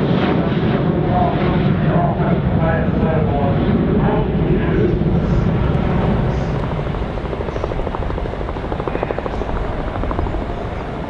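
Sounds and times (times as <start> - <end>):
jet engines rumbling with flutter: 0.0 - 11.0.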